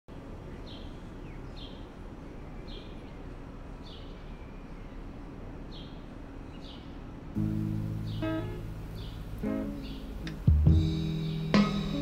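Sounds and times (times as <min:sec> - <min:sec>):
low background hum: 0:00.1 - 0:12.0
bird chirping: 0:00.4 - 0:12.0.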